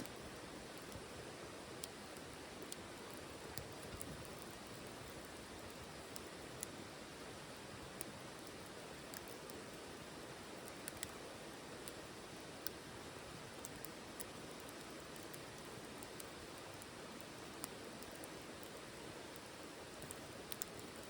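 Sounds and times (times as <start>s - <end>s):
wood fire crackling in stove: 0.0s - 21.0s.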